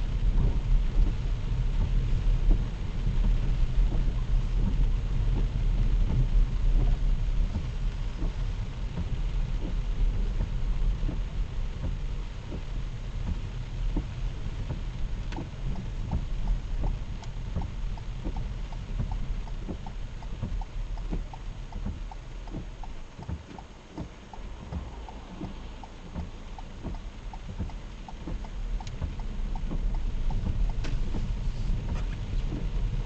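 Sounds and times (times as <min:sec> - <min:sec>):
rain hiss: 0:00.0 - 0:33.0
raindrops ticking on car body: 0:00.0 - 0:33.0
road and engine rumble: 0:00.0 - 0:33.0.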